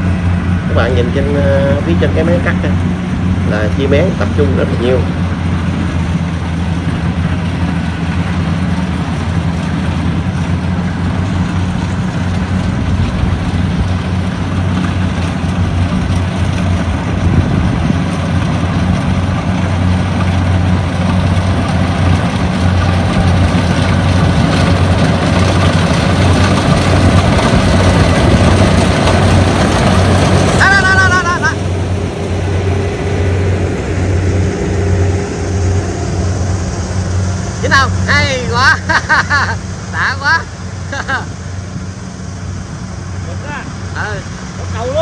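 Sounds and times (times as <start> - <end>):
combine harvester engine hum: 0.0 - 45.0.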